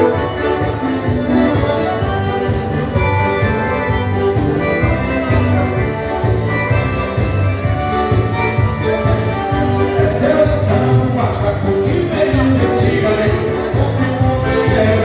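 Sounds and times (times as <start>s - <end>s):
live band playing dance music: 0.0s - 15.0s.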